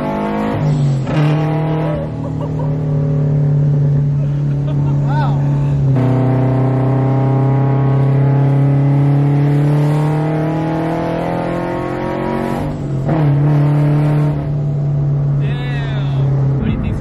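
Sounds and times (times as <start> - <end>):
car engine at full throttle: 0.0 - 17.0.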